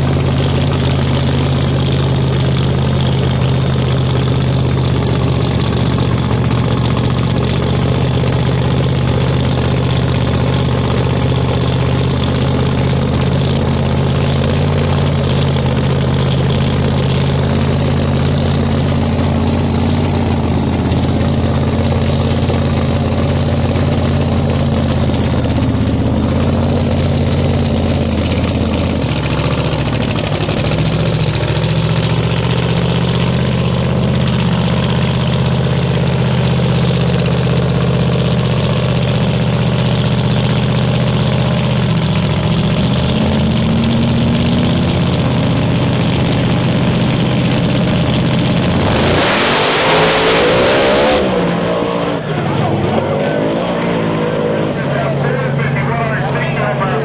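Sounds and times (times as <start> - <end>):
engines idling: 0.0 - 57.0.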